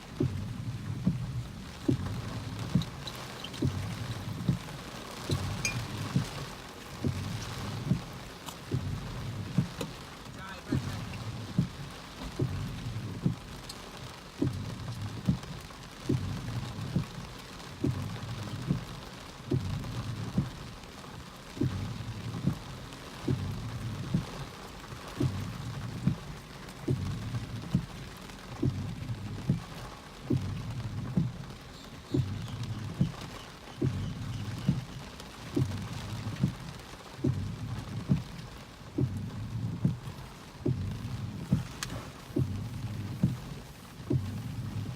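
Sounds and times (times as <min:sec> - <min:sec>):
regular low thump: 0:00.0 - 0:10.0, 0:10.7 - 0:13.6, 0:14.3 - 0:20.7, 0:21.5 - 0:44.9
rain: 0:00.0 - 0:44.9.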